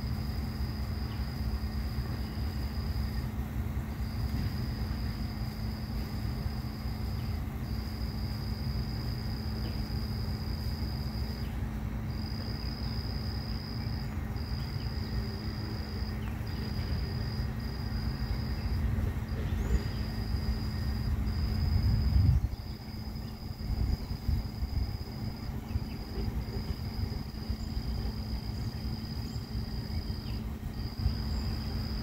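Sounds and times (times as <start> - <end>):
low outdoor rumble: 0.0 - 32.0
insect high-pitched trill: 4.0 - 32.0.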